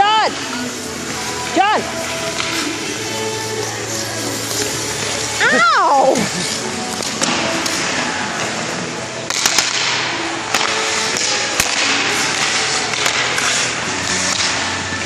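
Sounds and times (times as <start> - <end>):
hockey sticks and pucks clacking: 0.0 - 15.0
skates scraping on ice: 0.1 - 15.0.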